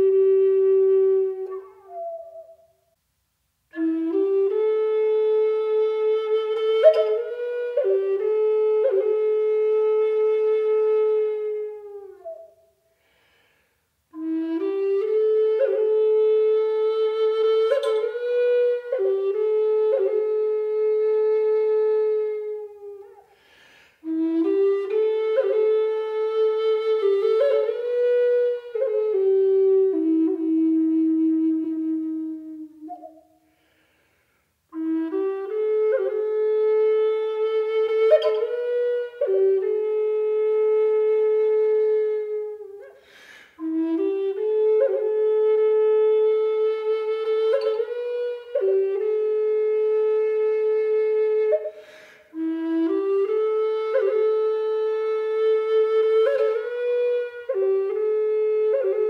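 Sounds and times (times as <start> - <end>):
solo flute melody: 0.0 - 34.0, 34.6 - 59.0.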